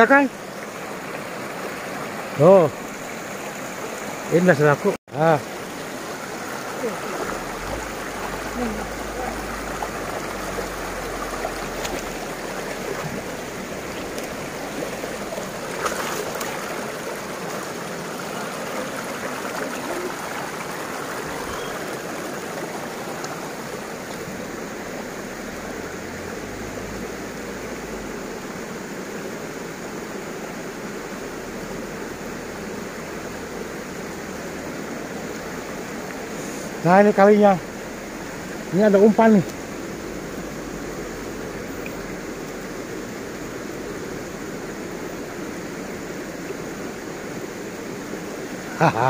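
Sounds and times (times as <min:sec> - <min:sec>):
river rushing over stones: 0:00.0 - 0:49.0.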